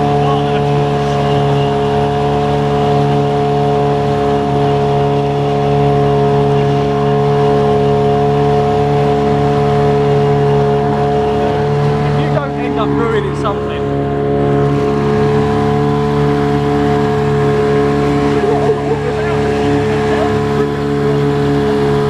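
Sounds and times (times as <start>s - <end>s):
outboard motor droning: 0.0s - 22.0s.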